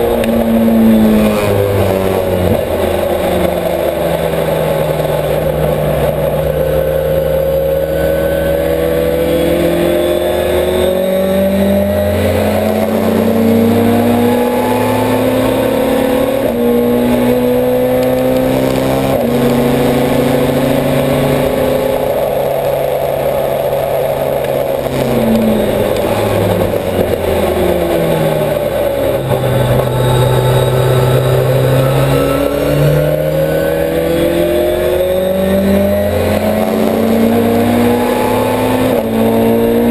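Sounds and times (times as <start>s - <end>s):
race car engine revving through gears: 0.0s - 39.9s.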